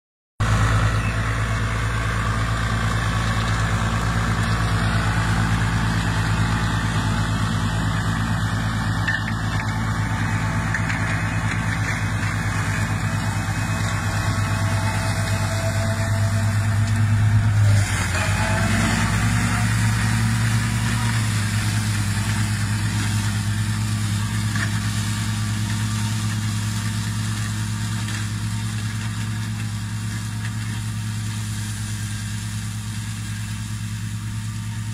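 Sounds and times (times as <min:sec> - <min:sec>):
tractor diesel engine running: 0:00.4 - 0:34.9.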